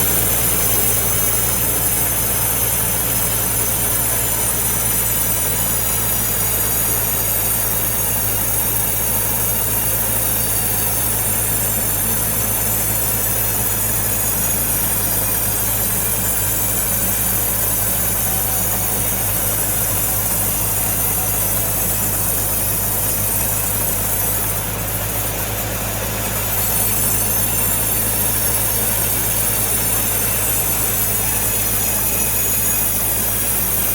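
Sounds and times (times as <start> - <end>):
sawmill machinery humming and whining: 0.0 - 33.9.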